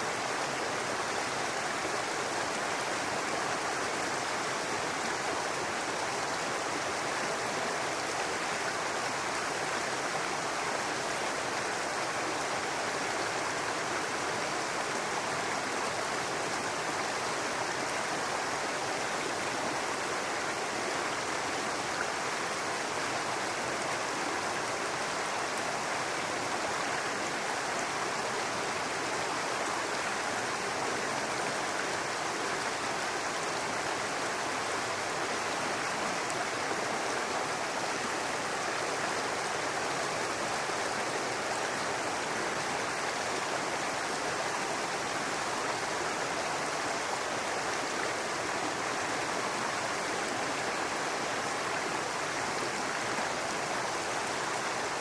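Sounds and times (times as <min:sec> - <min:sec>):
brook babbling over rocks: 0:00.0 - 0:55.0.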